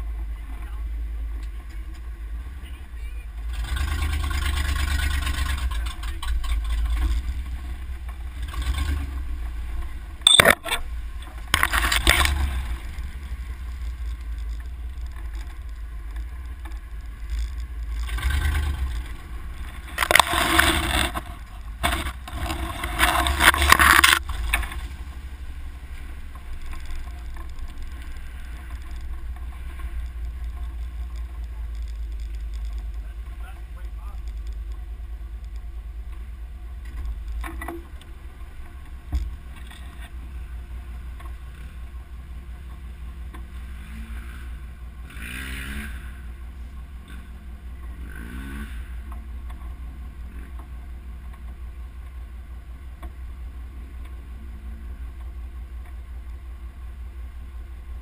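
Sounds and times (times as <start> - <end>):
off-road vehicle engine rumble: 0.0 - 58.0
brush scraping vehicle side: 3.4 - 51.6.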